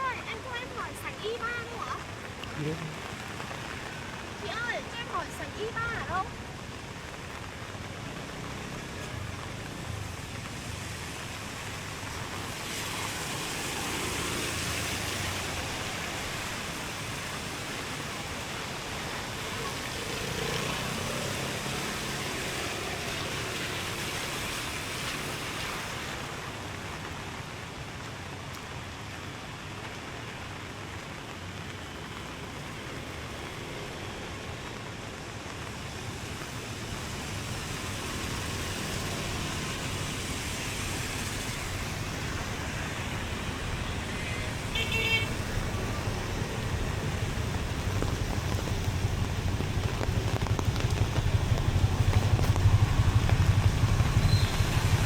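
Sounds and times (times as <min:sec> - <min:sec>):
rain: 0:00.0 - 0:55.0
traffic on wet streets: 0:00.0 - 0:55.0.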